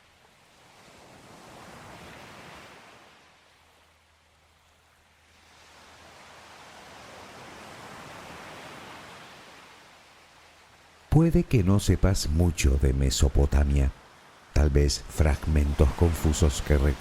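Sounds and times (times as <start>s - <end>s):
sea waves breaking on shore: 0.0s - 11.3s, 12.0s - 17.0s.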